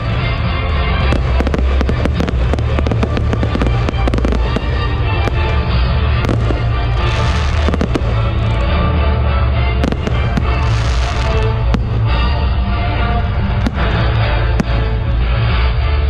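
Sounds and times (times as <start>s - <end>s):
fireworks bursting and crackling: 0.0s - 9.1s, 9.8s - 15.4s
loud music with heavy bass: 0.0s - 15.9s.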